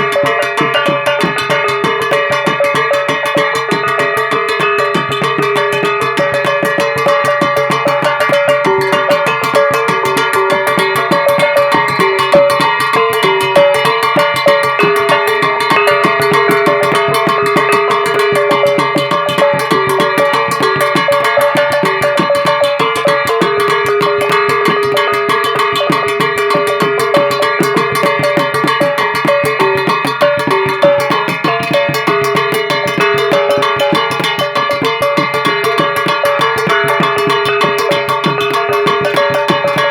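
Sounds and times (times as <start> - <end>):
music with busy percussion: 0.0 - 39.9.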